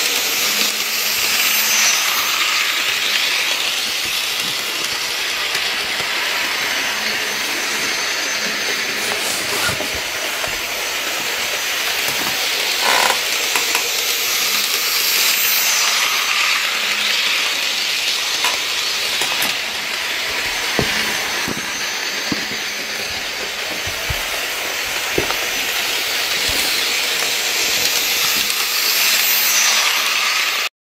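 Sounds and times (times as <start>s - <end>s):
model train running on track: 0.0s - 30.7s.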